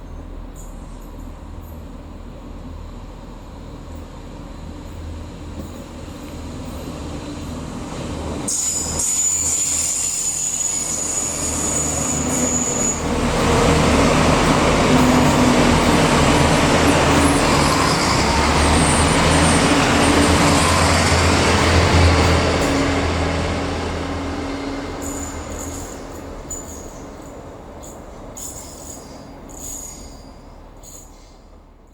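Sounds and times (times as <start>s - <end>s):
train passing: 0.0s - 31.9s.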